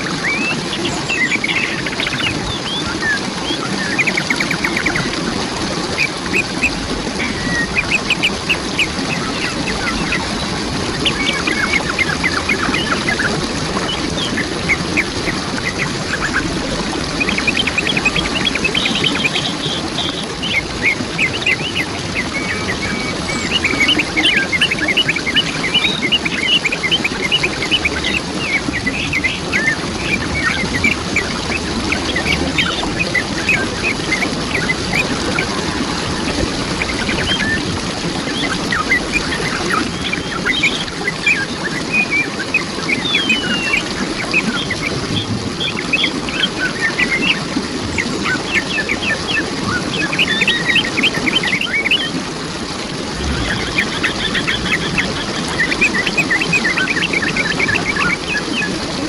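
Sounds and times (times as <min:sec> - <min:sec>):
birds chirping: 0:00.0 - 0:05.2, 0:05.9 - 0:52.1, 0:53.1 - 0:59.0
waterfall running: 0:00.0 - 0:59.0.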